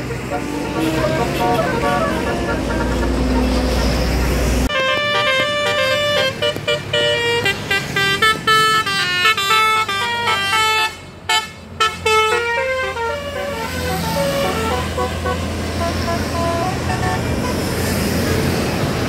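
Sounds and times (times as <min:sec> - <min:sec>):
bus horn playing melody: 0:00.0 - 0:17.8.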